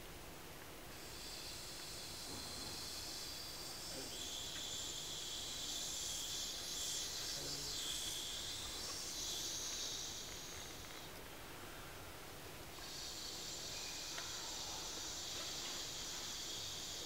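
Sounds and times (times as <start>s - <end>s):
breathy mouth hiss: 0.9s - 12.0s, 12.7s - 17.0s.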